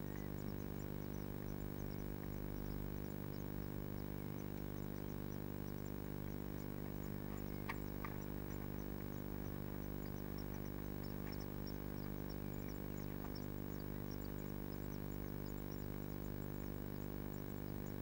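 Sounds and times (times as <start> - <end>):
electrical hum: 0.0 - 18.0
nestlings cheeping: 0.0 - 18.0.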